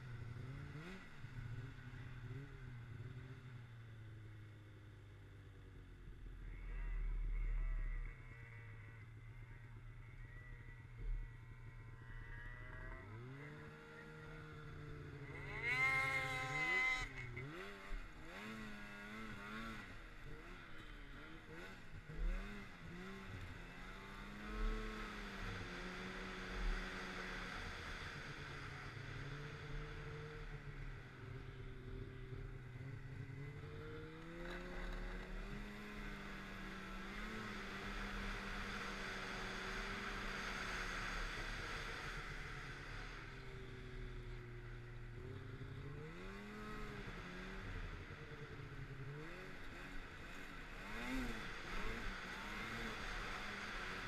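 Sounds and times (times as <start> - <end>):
snowmobile engine revving: 0.0 - 3.6, 6.4 - 54.0.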